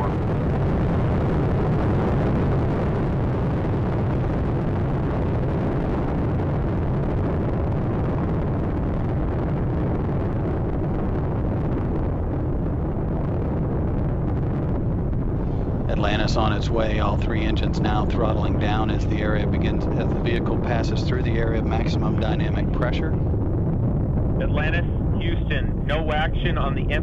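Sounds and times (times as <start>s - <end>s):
rocket engines roaring: 0.0s - 27.0s.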